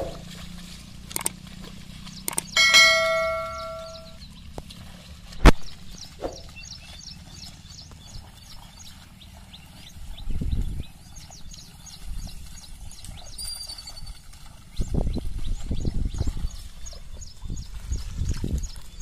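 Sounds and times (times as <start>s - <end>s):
low sloshing splashes in mud: 0.0s - 2.5s, 4.1s - 19.0s
birds chirping: 1.1s - 19.0s.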